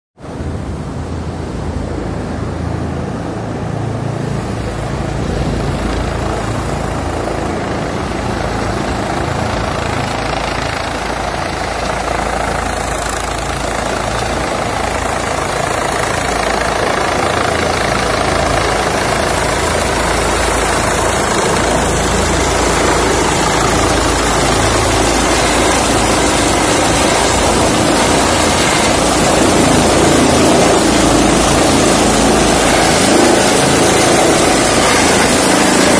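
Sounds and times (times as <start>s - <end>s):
helicopter rotor and turbine: 0.2s - 35.9s.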